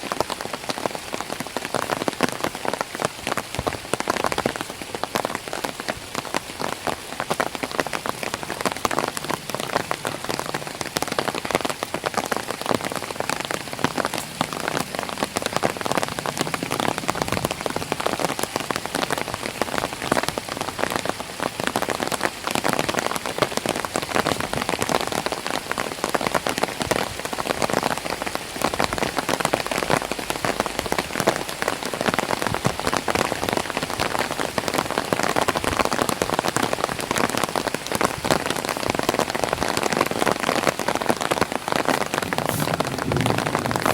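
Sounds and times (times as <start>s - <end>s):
rain pattering on an umbrella: 0.0s - 43.9s.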